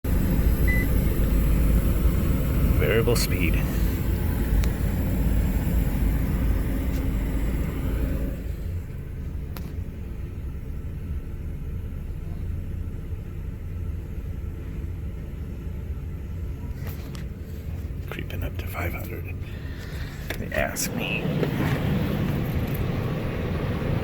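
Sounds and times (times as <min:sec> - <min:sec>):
condenser unit rumble and hum: 0:00.1 - 0:22.4.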